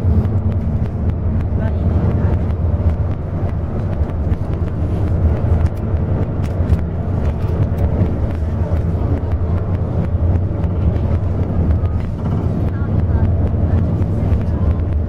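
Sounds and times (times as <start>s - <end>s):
bus body rattles and clicks: 0.0s - 15.0s
bus engine and road noise: 0.0s - 15.0s.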